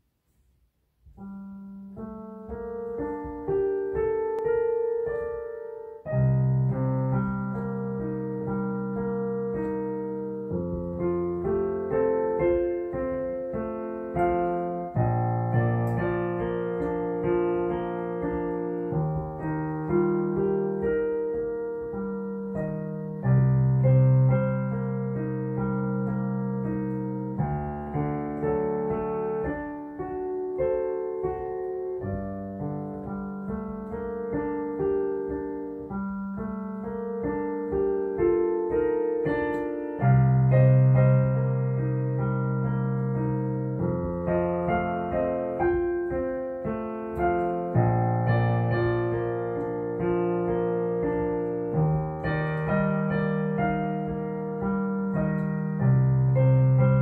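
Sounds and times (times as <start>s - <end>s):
slow digital piano piece: 0.0s - 57.0s.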